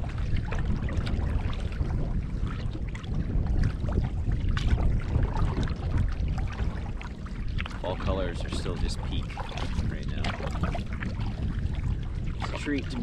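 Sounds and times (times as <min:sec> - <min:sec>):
water splashing and lapping: 0:00.0 - 0:13.0
wind rumbling on microphone: 0:00.0 - 0:13.0.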